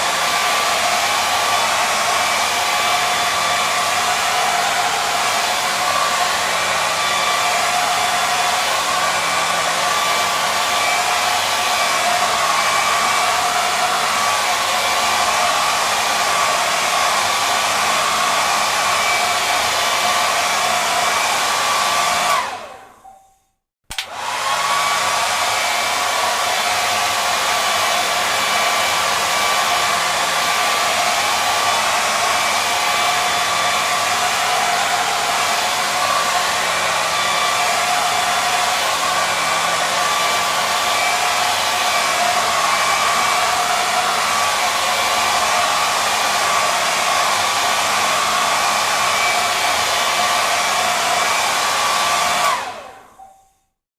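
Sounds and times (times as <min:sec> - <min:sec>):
hair dryer blowing: 0:00.0 - 0:23.2, 0:23.9 - 0:53.6.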